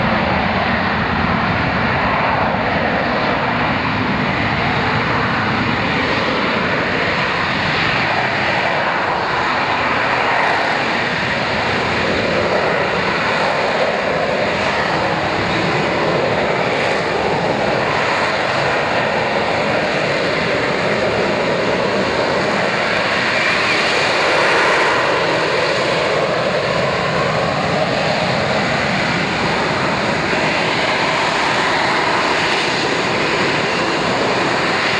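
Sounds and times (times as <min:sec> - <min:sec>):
jet engine running: 0:00.0 - 0:34.9.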